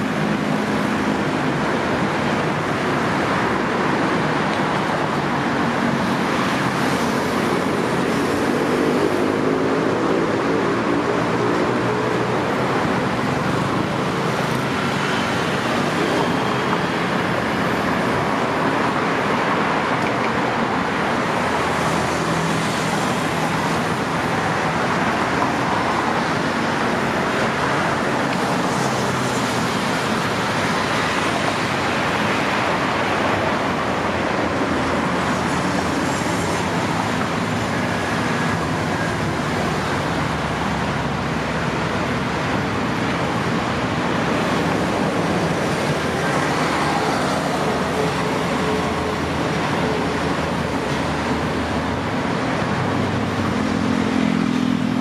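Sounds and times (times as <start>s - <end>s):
cars passing close by: 0.0s - 55.0s
road traffic: 0.0s - 55.0s.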